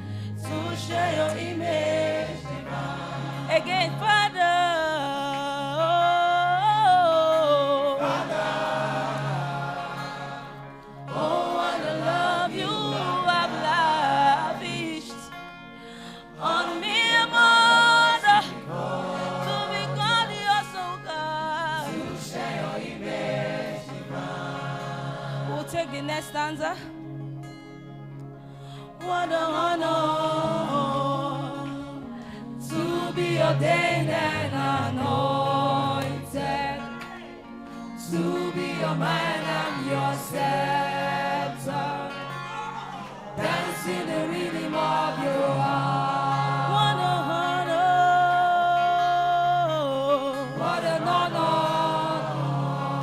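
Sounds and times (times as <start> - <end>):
group singing gospel song: 0.2 - 4.4, 6.6 - 15.3, 16.3 - 25.8, 29.2 - 48.2, 50.4 - 53.0.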